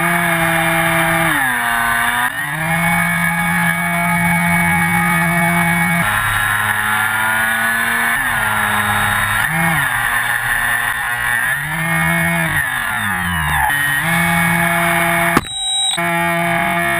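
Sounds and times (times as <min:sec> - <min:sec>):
electric motor and propeller whining: 0:00.0 - 0:16.9.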